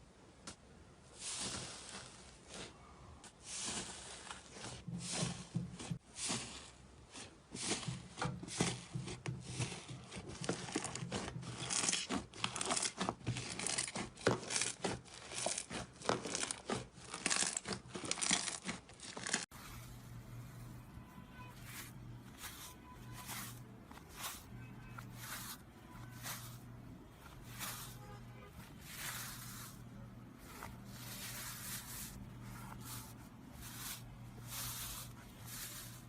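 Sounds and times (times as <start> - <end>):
crisp crackling and scraping: 3.6 - 36.0.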